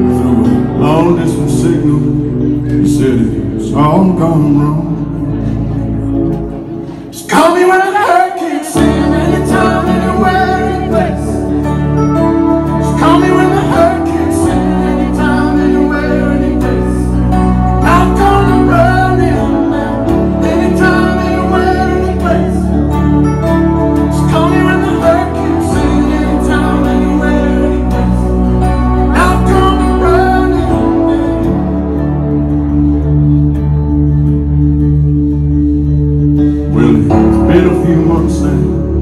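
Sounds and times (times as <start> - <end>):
man singing: 0.0 - 5.5, 7.1 - 32.4, 36.5 - 39.0
bass line: 0.0 - 7.6, 8.7 - 39.0
acoustic guitar: 0.0 - 39.0
keyboards: 0.0 - 39.0.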